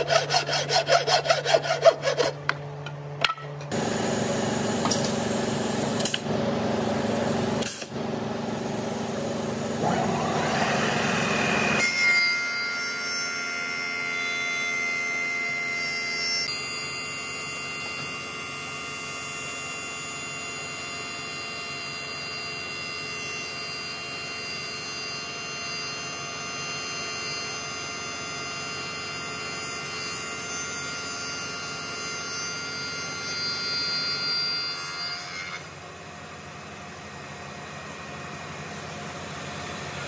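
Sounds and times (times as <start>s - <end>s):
machine humming with whining tones: 2.2s - 40.0s.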